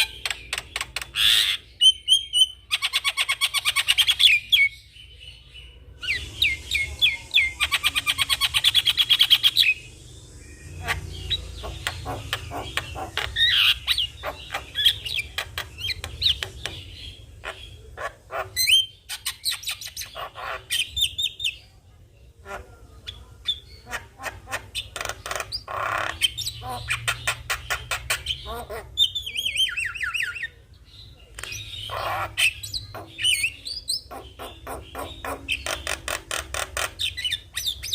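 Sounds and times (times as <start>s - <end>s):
myna bird singing: 0.0s - 37.9s.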